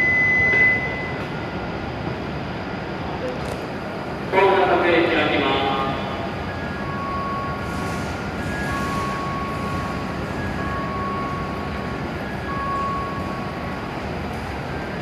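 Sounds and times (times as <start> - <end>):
train hum: 0.0 - 15.0.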